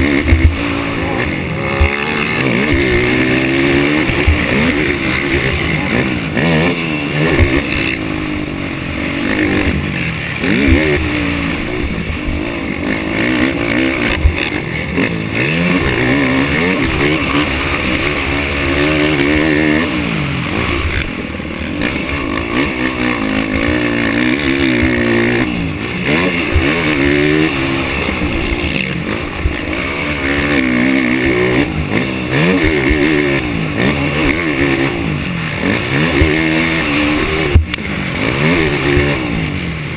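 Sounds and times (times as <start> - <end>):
racing atv engine revving: 0.0 - 39.9.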